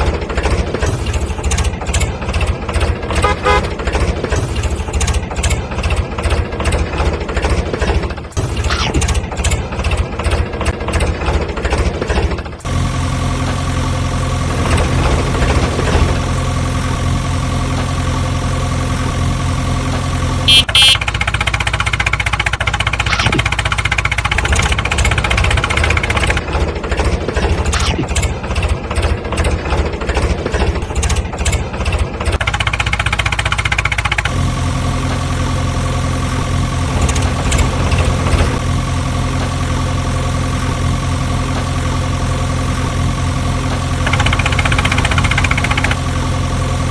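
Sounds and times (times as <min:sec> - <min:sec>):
vehicle engine idling: 0:00.0 - 0:08.5, 0:09.1 - 0:46.9.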